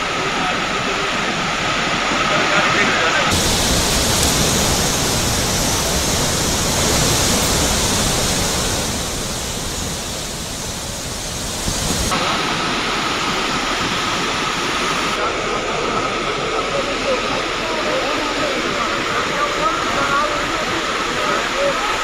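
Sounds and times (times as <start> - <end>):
rushing river water: 0.0 - 22.0.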